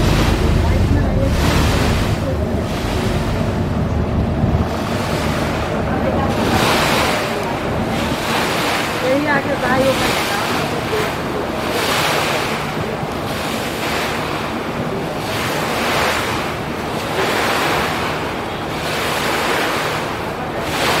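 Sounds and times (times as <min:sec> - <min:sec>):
low engine drone: 0:00.0 - 0:21.0
river water rushing and splashing: 0:00.0 - 0:21.0
wind on microphone: 0:00.0 - 0:21.0.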